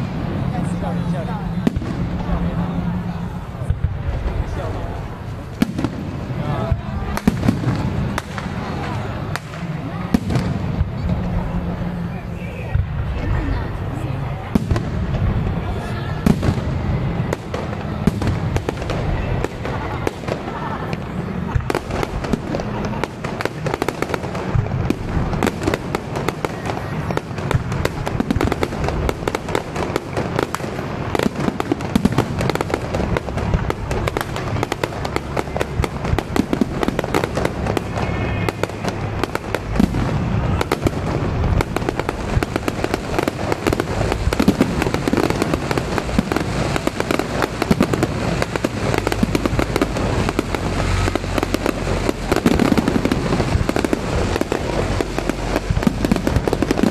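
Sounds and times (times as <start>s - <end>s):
aerial fireworks bursting: 0.0s - 56.9s.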